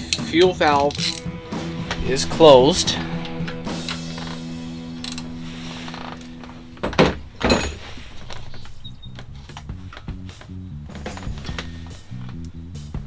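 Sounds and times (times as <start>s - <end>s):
background music with held notes: 0.0s - 13.0s
hand tools clinking: 0.0s - 13.0s.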